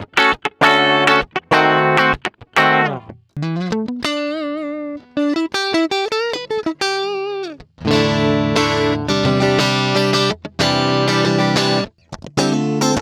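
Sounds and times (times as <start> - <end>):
electric guitar solo: 0.0 - 13.0.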